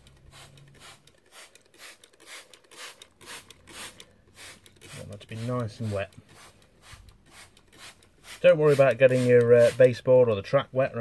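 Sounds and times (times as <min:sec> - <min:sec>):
spray bottle hissing: 0:00.0 - 0:10.0.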